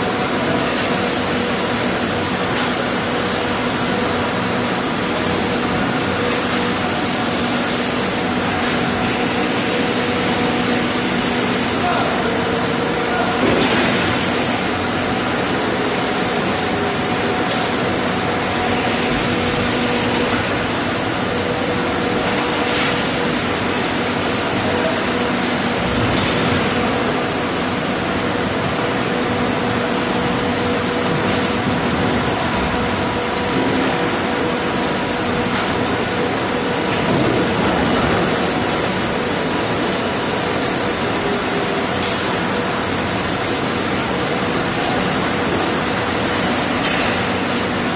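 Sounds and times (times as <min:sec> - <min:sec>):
machinery and ventilation hiss: 0:00.0 - 0:47.9.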